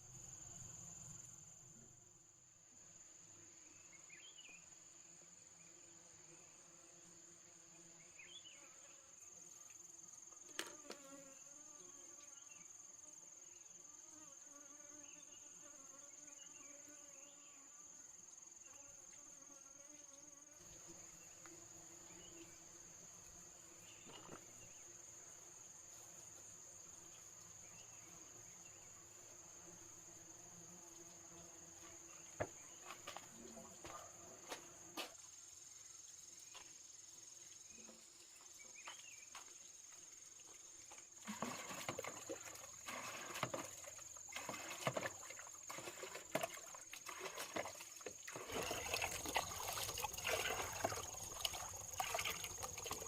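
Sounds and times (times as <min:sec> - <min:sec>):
crickets droning: 0:00.0 - 0:53.0.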